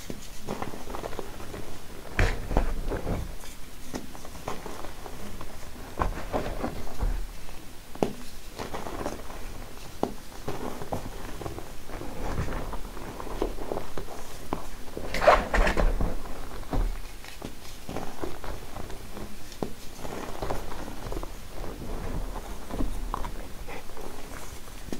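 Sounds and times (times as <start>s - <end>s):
soft thuds in powder: 0.0s - 24.9s
block crumbling with crackles: 0.4s - 24.9s.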